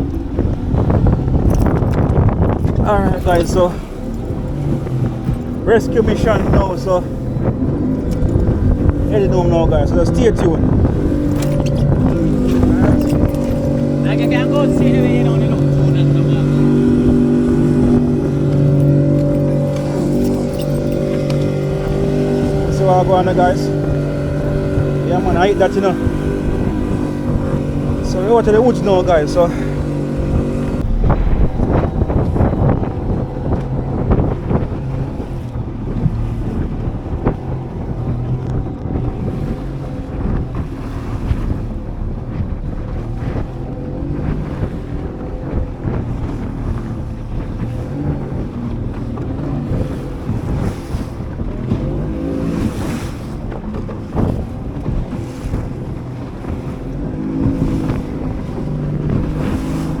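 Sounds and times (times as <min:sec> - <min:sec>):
motorboat engine running: 0:00.0 - 1:00.0
water rushing past: 0:00.0 - 1:00.0
wind buffeting microphone: 0:00.0 - 1:00.0.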